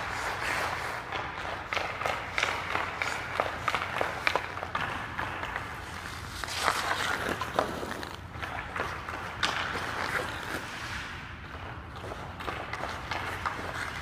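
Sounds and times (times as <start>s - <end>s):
skates scraping on ice: 0.0s - 14.0s
stick and puck clicks: 0.0s - 14.0s.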